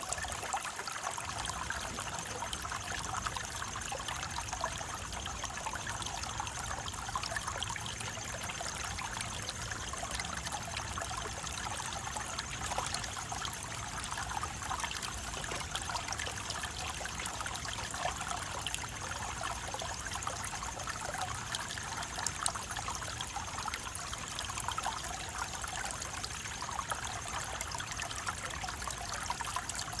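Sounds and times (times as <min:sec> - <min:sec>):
water trickling and babbling: 0:00.0 - 0:30.0.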